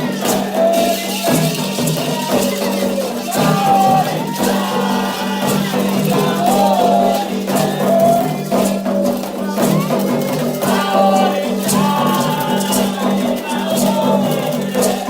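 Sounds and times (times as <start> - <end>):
hand percussion with rattles: 0.0 - 15.0
voices singing a chant: 0.0 - 15.0.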